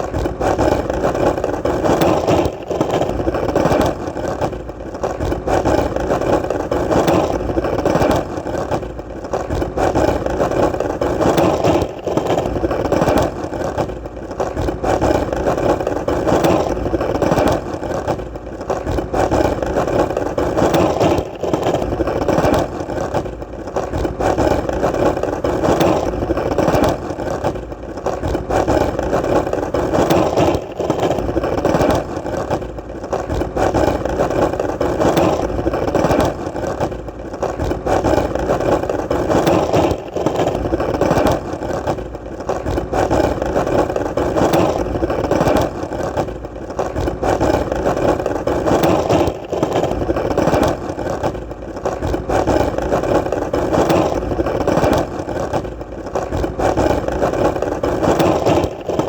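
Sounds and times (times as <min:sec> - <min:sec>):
skateboard wheels rolling: 0:00.0 - 0:59.0.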